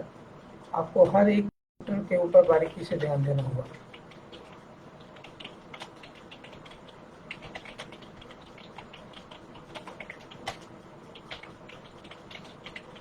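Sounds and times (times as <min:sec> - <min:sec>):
computer keyboard typing: 0:02.4 - 0:13.0.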